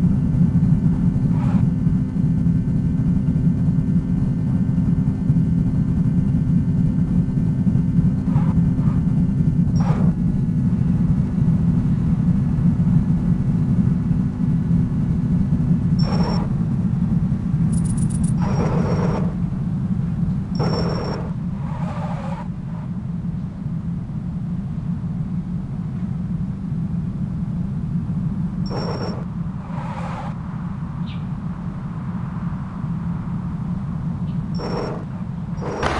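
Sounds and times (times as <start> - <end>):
low rumble: 0.0 - 35.9.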